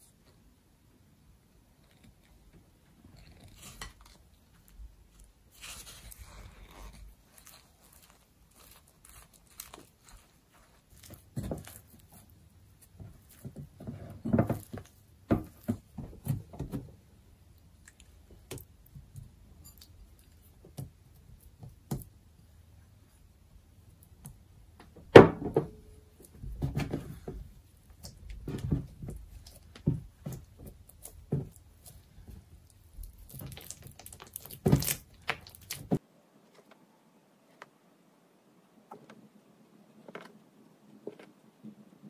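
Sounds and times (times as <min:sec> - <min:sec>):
dough kneaded on wooden table: 0:00.0 - 0:36.8.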